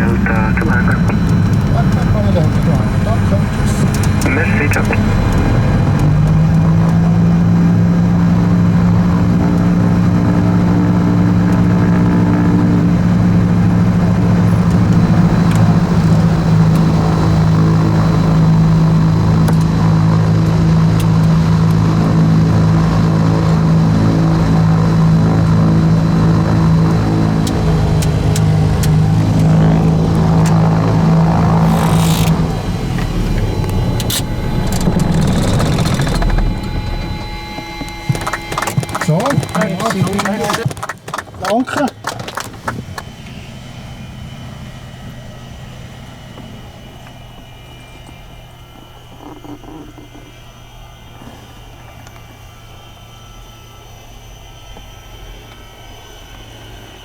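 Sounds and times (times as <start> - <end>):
twin piston aircraft engines droning: 0.0 - 57.0.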